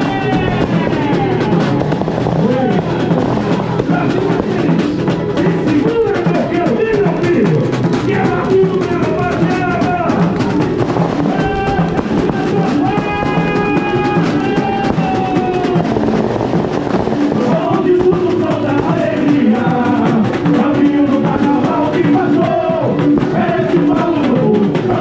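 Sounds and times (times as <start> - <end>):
samba drums and percussion: 0.0 - 25.0.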